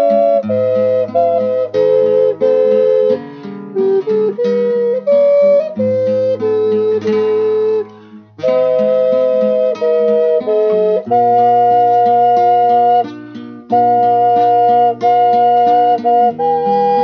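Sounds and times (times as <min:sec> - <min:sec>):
double ocarina melody: 0:00.0 - 0:17.0.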